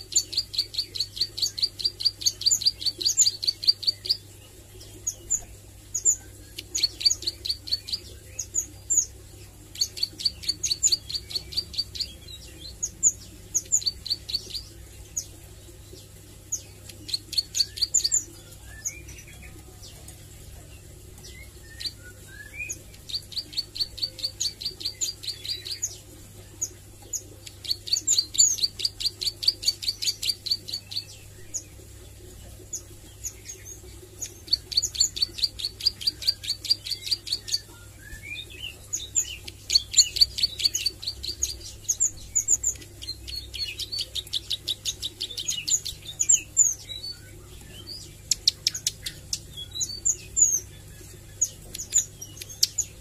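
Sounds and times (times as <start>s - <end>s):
bird singing rapid clicking notes: 0.0s - 20.1s, 21.2s - 26.0s, 26.6s - 31.8s, 32.7s - 53.0s.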